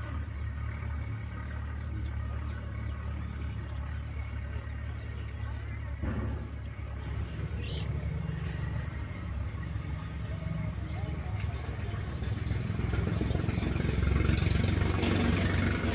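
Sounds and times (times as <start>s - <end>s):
faint voices: 0.0s - 14.3s
vehicle engine rumbling: 0.0s - 15.9s.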